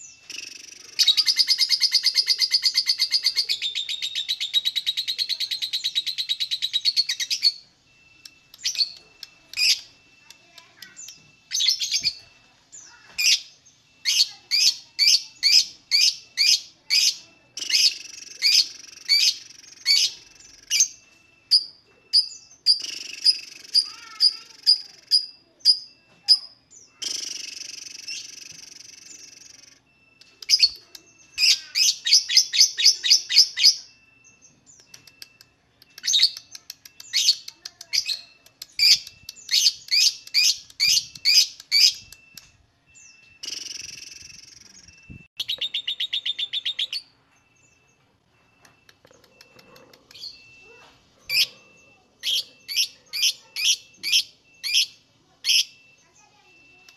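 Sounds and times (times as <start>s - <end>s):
lovebird chirping: 0.0s - 56.9s.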